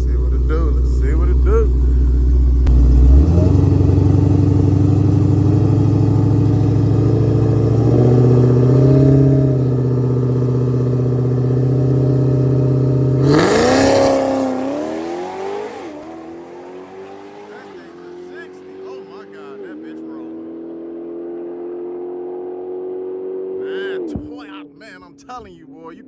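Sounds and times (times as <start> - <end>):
drag car engine at full throttle: 0.0 - 24.6.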